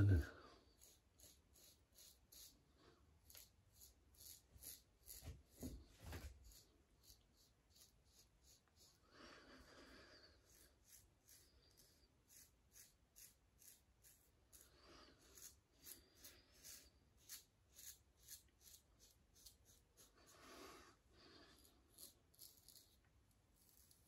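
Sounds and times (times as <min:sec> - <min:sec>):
razor scraping stubble: 0:00.0 - 0:09.0, 0:10.2 - 0:20.5, 0:21.5 - 0:24.0.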